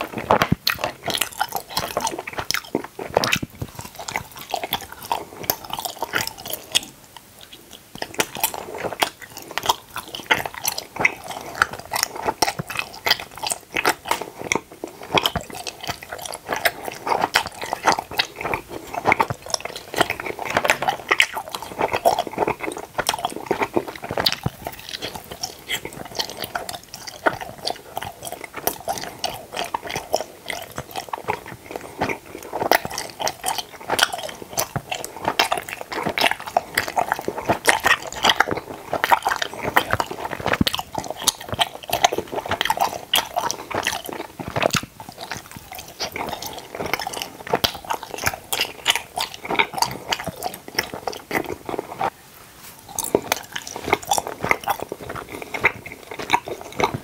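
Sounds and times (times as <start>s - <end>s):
chewing gummy candies: 0.0s - 52.2s, 52.8s - 57.0s.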